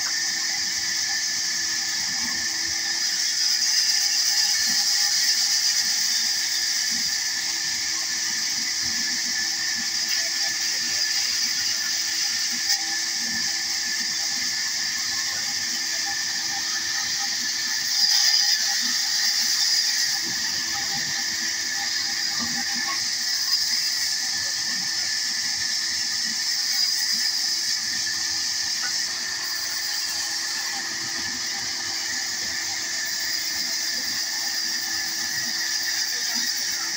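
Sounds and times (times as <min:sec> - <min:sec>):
band saw cutting wood: 0:00.0 - 0:36.9.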